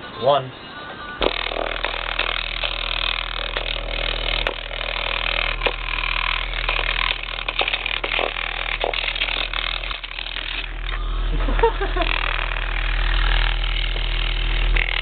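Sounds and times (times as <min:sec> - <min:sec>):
buzzing rattling: 0:01.0 - 0:15.0
deep test tone hum: 0:01.2 - 0:15.0.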